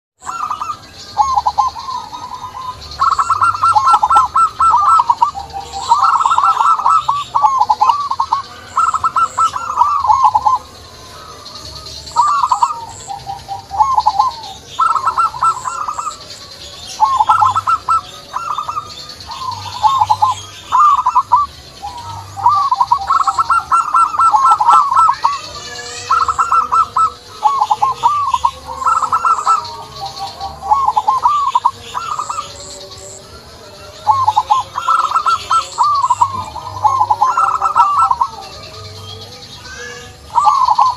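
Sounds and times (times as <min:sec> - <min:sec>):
doves cooing: 0:00.2 - 0:40.9
high bird chirps: 0:00.2 - 0:40.9.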